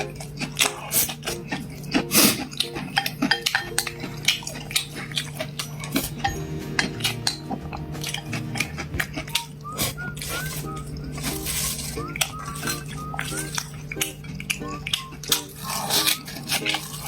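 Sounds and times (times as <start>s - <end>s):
dishes and utensils clinking: 0.0s - 17.0s
low background tones: 0.0s - 17.0s.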